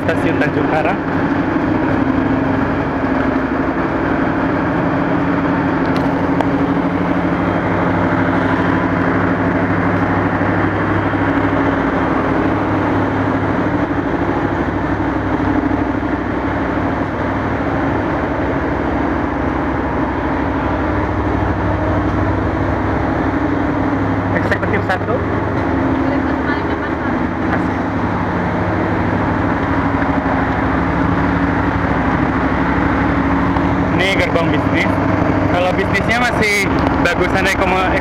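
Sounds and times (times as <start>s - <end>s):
train diesel engines idling: 0.0s - 38.0s.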